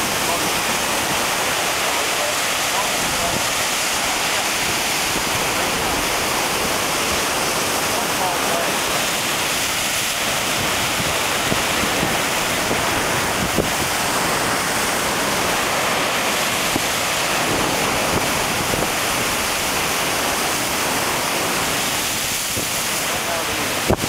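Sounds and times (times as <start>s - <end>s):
ocean surf rushing: 0.0s - 24.0s
wind on microphone: 0.0s - 24.0s.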